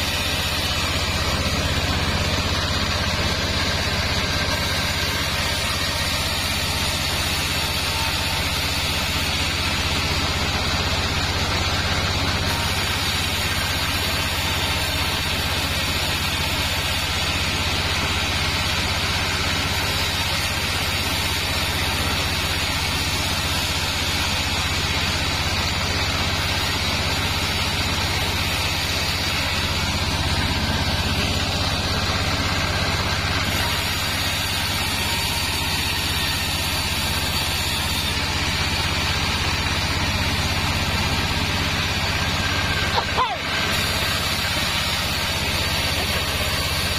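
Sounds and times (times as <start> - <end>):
band saw blade cutting wood: 0.0 - 46.9
engine droning: 0.0 - 46.9.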